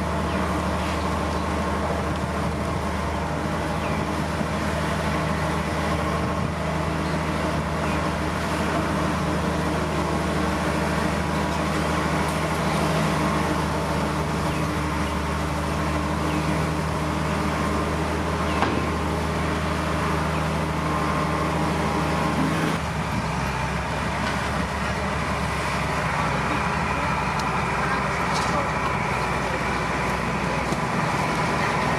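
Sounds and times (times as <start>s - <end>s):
heavy diesel machinery engine: 0.0s - 31.9s.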